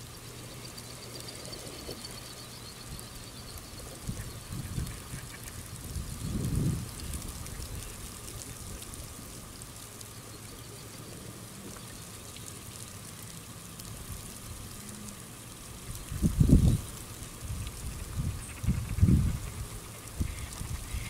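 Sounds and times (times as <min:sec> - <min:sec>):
light rain falling: 0:00.0 - 0:21.0.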